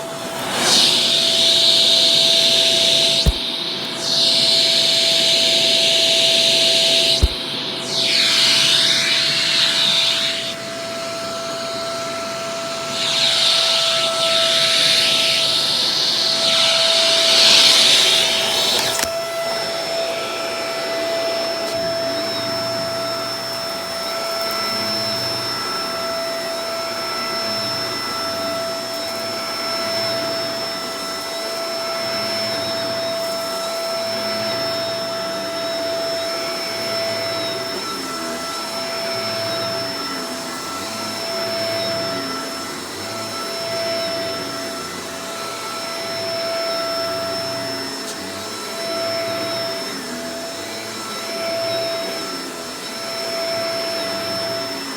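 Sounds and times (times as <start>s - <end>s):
upright vacuum running: 0.0s - 54.9s.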